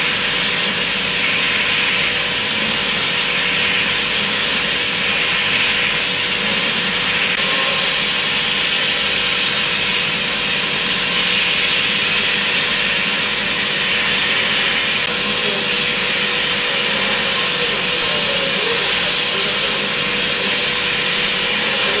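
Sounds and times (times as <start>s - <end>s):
constant machine tone: 0.0s - 22.0s
milling machine cutting metal: 0.0s - 22.0s.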